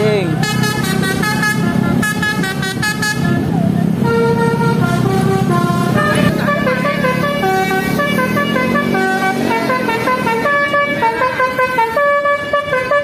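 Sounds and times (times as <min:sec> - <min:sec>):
bus musical horn melody: 0:00.4 - 0:13.0.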